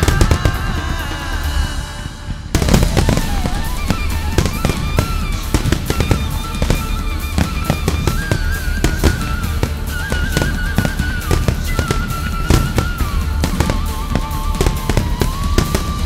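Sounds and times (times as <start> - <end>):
music with held melodic notes: 0.0 - 16.0
firework shells bursting: 2.6 - 16.0.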